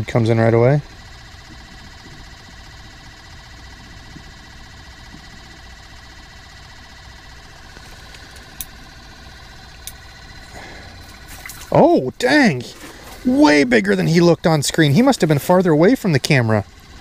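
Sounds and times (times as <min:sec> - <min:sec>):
aerator pump buzzing: 0:00.0 - 0:17.0.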